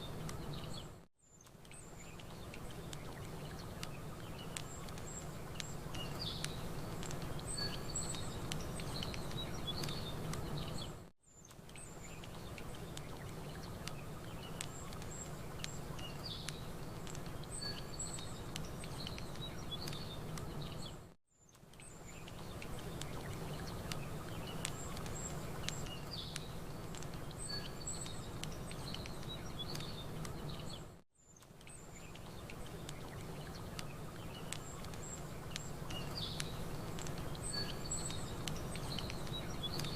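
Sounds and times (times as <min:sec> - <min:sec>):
steady background hiss: 0:00.0 - 0:21.1, 0:21.8 - 0:30.9, 0:31.5 - 0:39.9
small birds chirping: 0:00.0 - 0:39.9
campfire crackling: 0:01.4 - 0:39.9.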